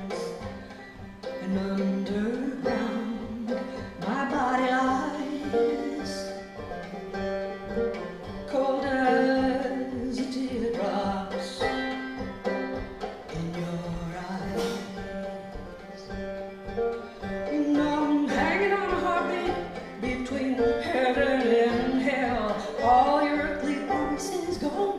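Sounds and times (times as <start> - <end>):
woman singing: 0.0 - 16.2, 17.4 - 24.9
plucked banjo: 0.0 - 24.9.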